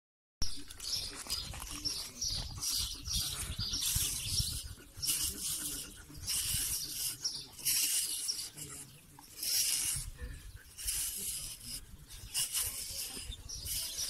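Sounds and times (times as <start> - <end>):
brush swishing through dog fur: 2.7 - 14.0.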